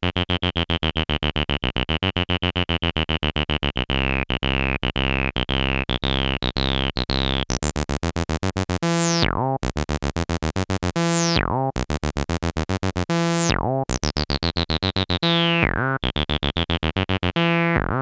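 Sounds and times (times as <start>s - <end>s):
synthesizer bass pattern: 0.2s - 18.0s.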